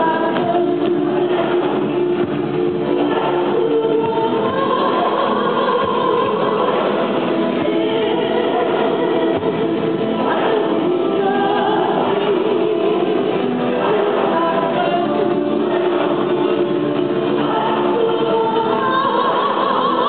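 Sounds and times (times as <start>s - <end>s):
choir singing long notes: 0.0s - 20.0s.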